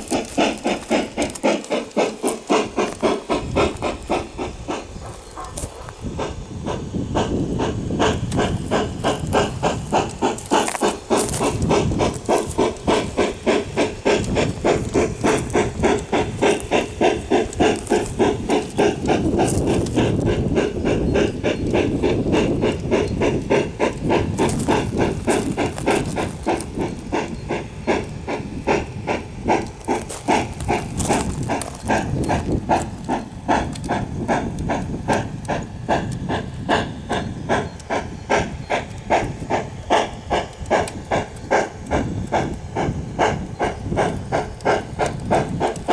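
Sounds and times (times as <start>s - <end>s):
model locomotive steam chuffs: 0.0s - 45.9s.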